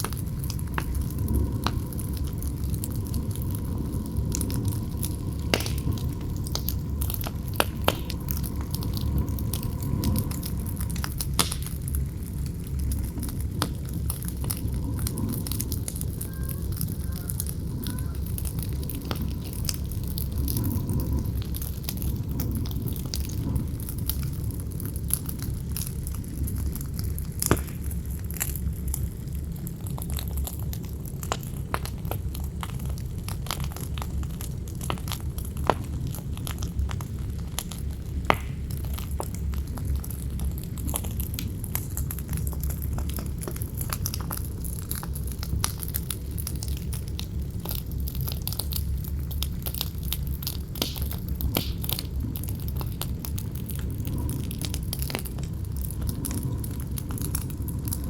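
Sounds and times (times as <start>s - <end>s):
campfire crackling and popping: 0.0s - 58.0s
low rumble of wind: 0.0s - 58.0s.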